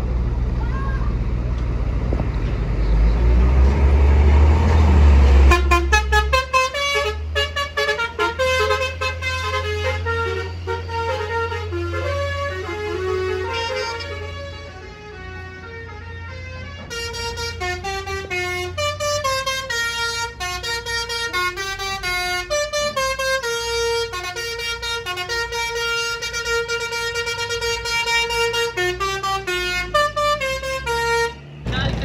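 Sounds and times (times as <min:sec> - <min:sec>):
diesel truck engine rumbling: 0:00.0 - 0:32.0
musical truck horn: 0:05.2 - 0:31.5.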